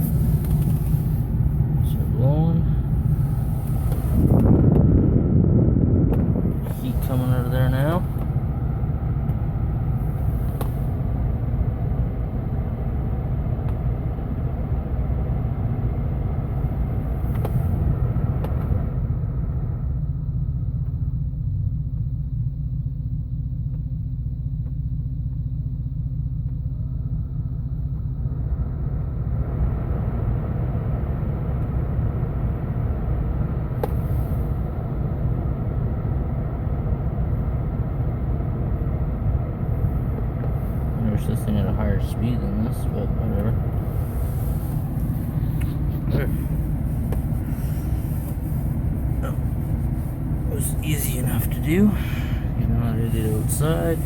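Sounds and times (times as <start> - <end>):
heater fan air rushing: 0.0 - 19.8, 28.3 - 54.0
vehicle engine idling: 0.0 - 54.0.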